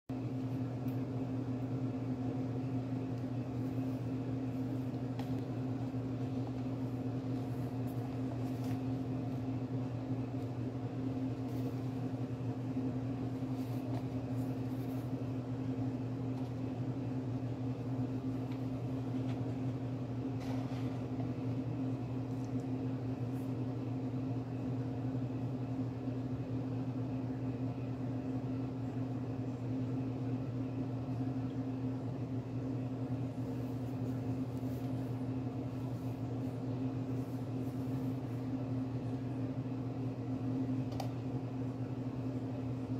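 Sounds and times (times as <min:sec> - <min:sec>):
low mechanical hum: 0:00.1 - 0:42.9.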